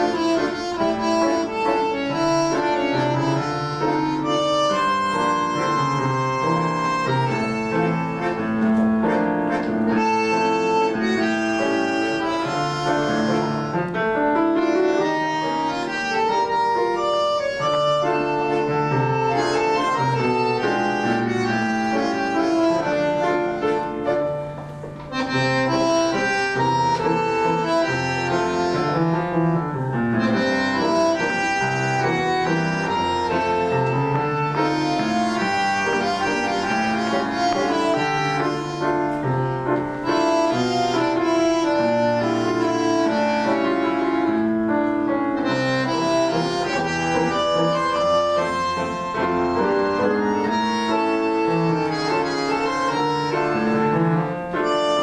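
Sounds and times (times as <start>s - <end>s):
bandoneons playing melody: 0.0s - 55.0s
piano bass line: 0.0s - 55.0s.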